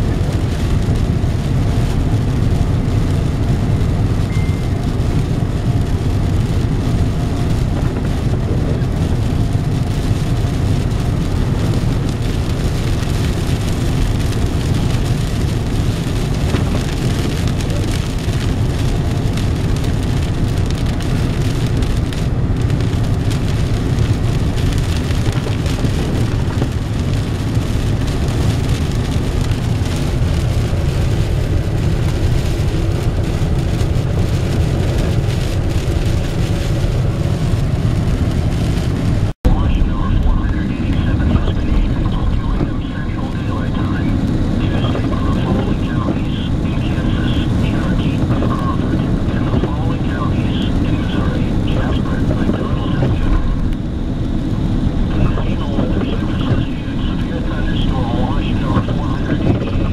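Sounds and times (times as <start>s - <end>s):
car road and engine rumble: 0.0s - 59.9s
rain hitting windshield: 0.0s - 59.9s.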